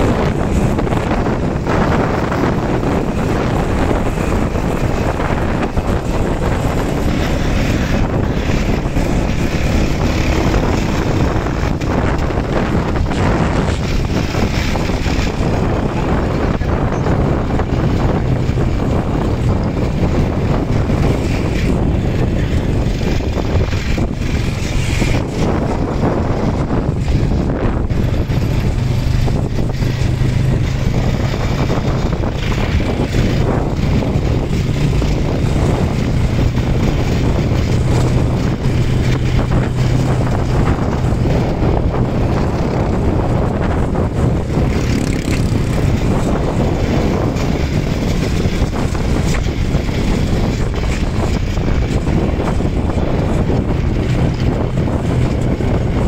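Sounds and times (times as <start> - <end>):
vehicle engine humming: 0.0 - 56.0
wind noise on microphone: 0.0 - 56.0.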